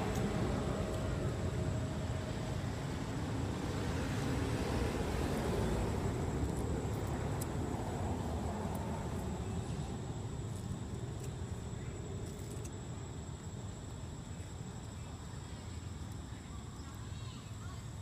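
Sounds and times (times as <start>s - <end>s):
low rumbling background noise: 0.0s - 18.0s.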